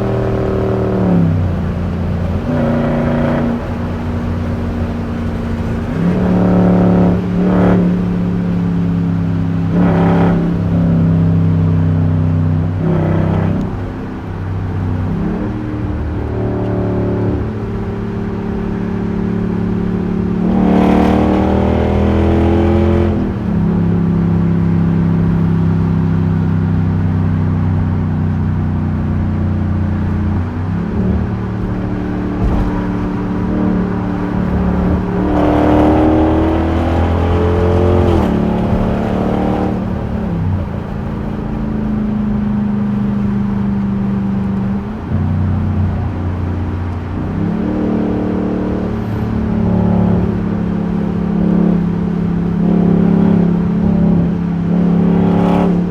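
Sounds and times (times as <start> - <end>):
loud engine exhaust accelerating: 0.0 - 55.9.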